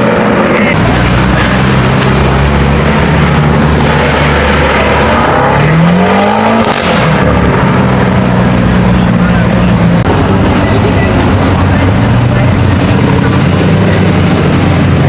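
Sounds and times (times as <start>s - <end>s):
car engine running and revving: 0.0s - 15.0s.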